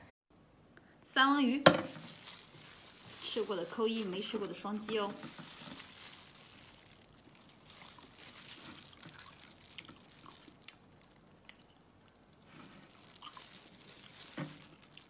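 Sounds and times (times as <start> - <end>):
biting and chewing food: 2.0 - 15.0.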